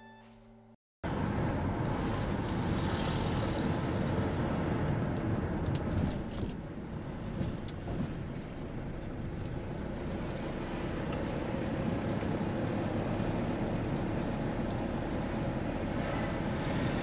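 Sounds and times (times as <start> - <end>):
road noise: 0.2 - 17.0.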